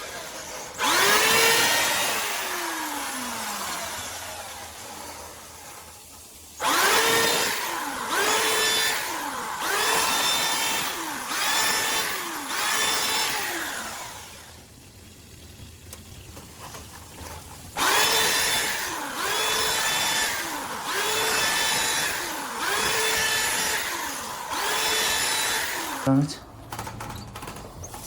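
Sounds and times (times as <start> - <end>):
drain-cleaning machine motor surging: 0.0 - 26.8.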